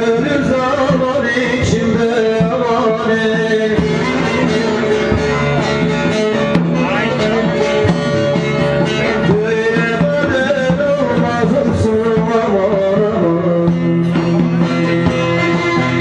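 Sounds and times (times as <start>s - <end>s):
plucked long-necked lute: 0.0s - 16.0s.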